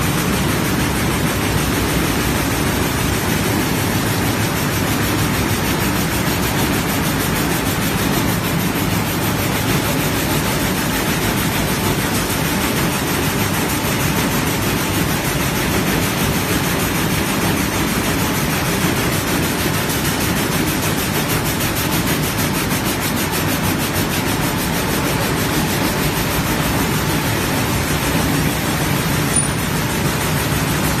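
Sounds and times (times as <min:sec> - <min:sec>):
loom clattering with hiss: 0:00.0 - 0:31.0
other looms running: 0:00.0 - 0:31.0.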